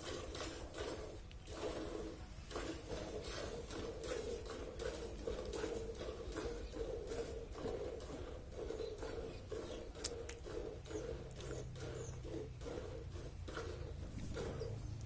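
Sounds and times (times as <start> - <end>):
milk squirting into metal bucket: 0.0 - 14.8.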